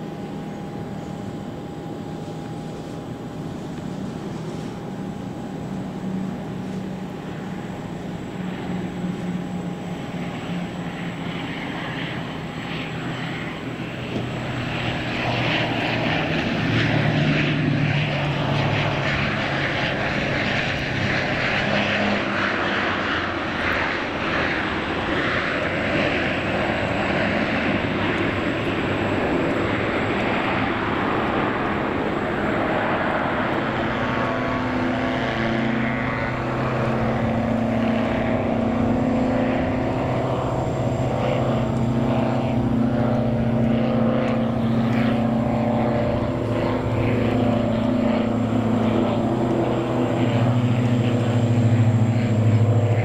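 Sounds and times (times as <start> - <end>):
propeller aircraft engine running: 0.0 - 53.0.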